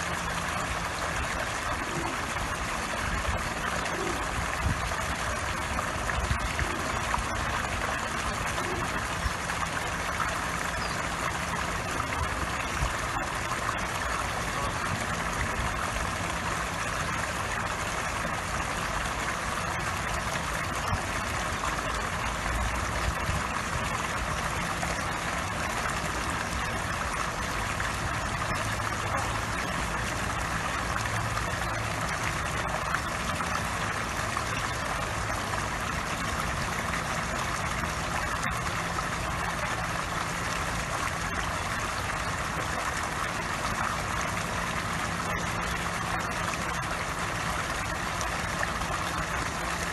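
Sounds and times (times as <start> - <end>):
fountain jet splashing into pond: 0.0 - 49.9
low steady hum: 0.0 - 49.9.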